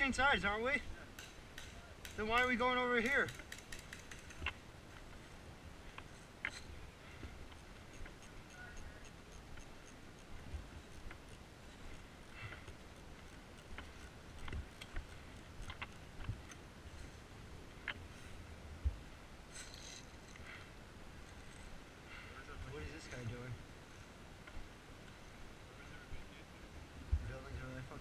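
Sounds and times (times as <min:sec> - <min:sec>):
low hiss: 0:00.0 - 0:28.0.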